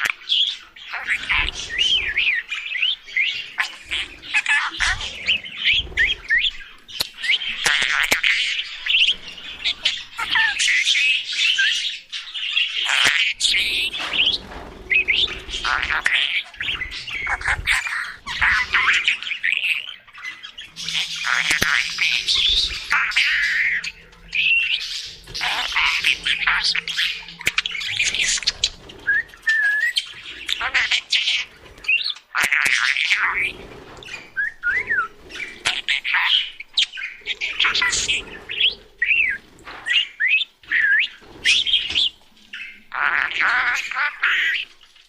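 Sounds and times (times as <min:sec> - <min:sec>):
budgerigars chattering: 0:00.0 - 0:44.7.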